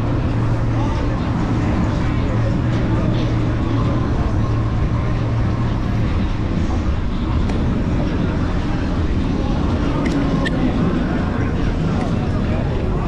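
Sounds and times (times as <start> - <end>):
low steady hum: 0.0 - 13.0
road noise: 0.0 - 13.0.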